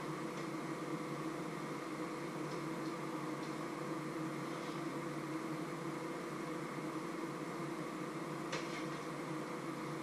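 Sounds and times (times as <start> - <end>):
hum and hiss: 0.0 - 10.0.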